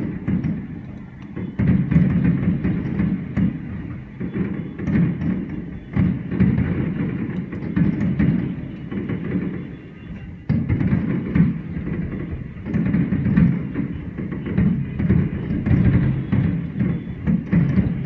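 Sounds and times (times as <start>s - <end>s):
fireworks rumbling booms: 0.0s - 18.0s
sharp firework bangs: 0.0s - 18.0s.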